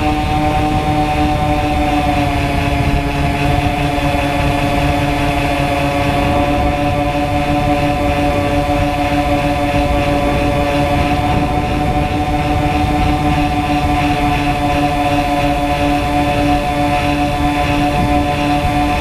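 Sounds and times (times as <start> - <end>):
model plane motor droning: 0.0 - 19.0
wind rumbling on microphone: 0.0 - 19.0.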